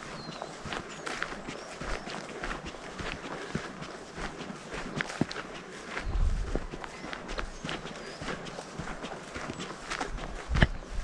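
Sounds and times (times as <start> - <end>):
crunching footsteps: 0.0 - 11.0
faint outdoor background noise: 0.0 - 11.0.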